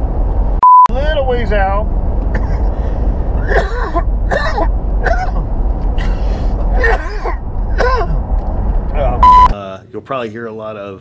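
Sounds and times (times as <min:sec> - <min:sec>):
road and engine rumble in cabin: 0:00.0 - 0:09.6.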